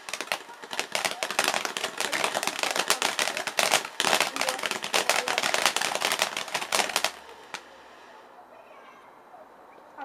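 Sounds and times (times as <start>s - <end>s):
firework crackling: 0.0s - 8.3s.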